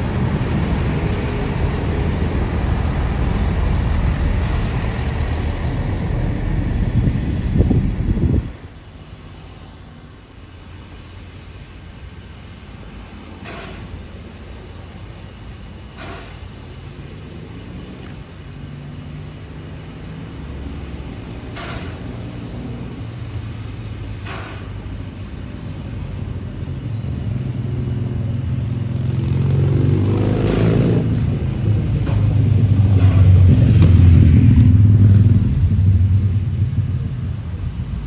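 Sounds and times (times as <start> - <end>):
passing vehicle engine rumble: 0.0 - 11.8, 14.7 - 38.0.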